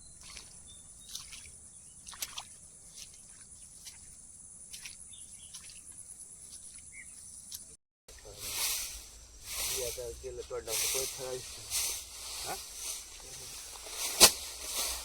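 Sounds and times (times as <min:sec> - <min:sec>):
insects trilling: 0:02.9 - 0:15.0.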